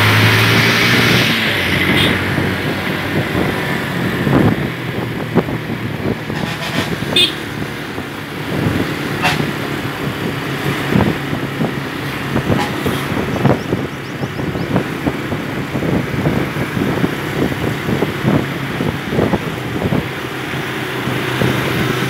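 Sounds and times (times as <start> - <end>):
wind noise on microphone: 0.0 - 22.0
motorcycle engine running: 1.9 - 22.0.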